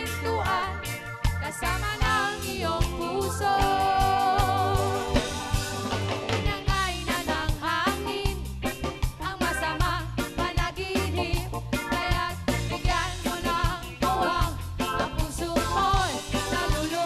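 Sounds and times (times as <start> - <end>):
person singing over a band: 0.0 - 5.5, 6.2 - 8.5, 9.2 - 17.0
steady drum beat: 0.0 - 17.0.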